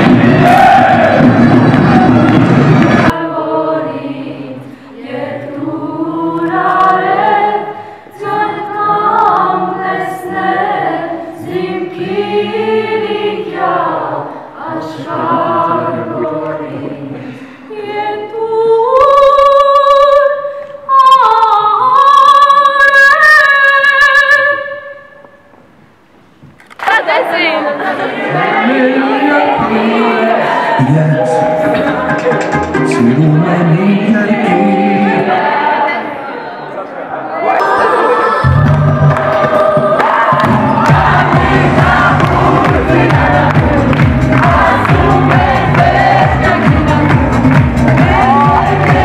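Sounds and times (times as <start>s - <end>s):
choir singing a cappella: 0.0s - 24.8s, 27.6s - 49.0s.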